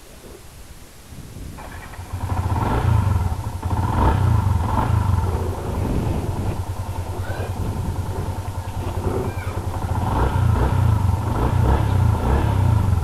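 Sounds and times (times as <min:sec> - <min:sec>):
motorcycle engine starting and revving: 0:01.5 - 0:13.0.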